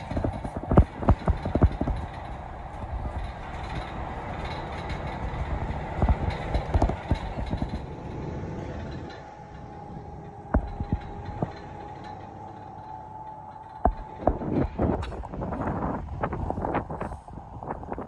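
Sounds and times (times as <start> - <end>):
train knocks: 0.0 - 17.2
train carriage rumble: 0.0 - 18.0.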